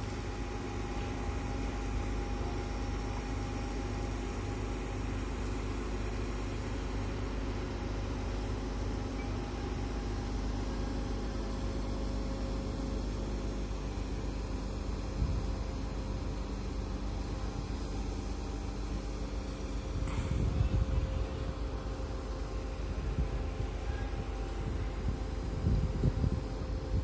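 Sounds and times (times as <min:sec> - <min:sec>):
crane engine running: 0:00.0 - 0:27.0.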